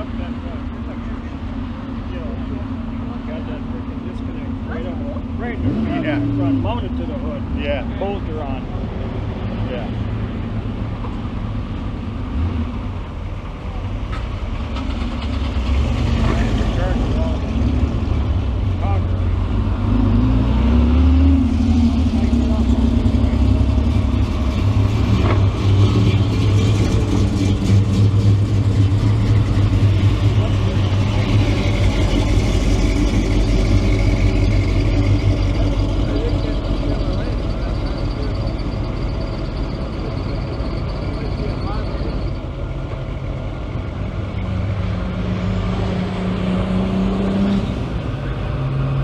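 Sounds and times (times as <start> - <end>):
car engine idling: 0.0 - 44.8, 47.7 - 49.0.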